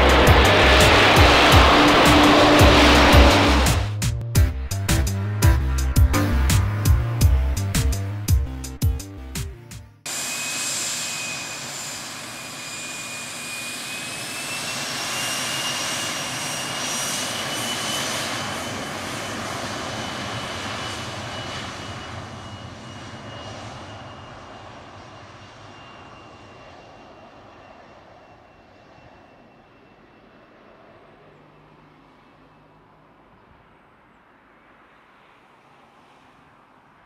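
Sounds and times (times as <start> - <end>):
jet engines roaring at takeoff: 0.0 - 4.1, 10.1 - 37.0
high jet engine whine: 0.0 - 8.4, 10.0 - 37.0.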